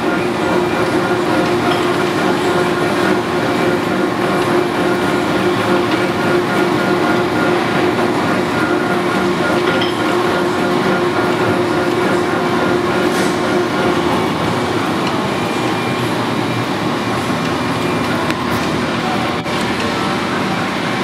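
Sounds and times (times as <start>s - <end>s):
lathe gear whine: 0.0s - 21.0s.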